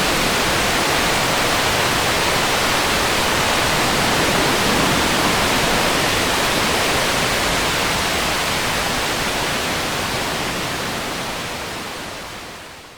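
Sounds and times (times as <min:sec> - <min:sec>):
waterfall roaring: 0:00.0 - 0:12.9.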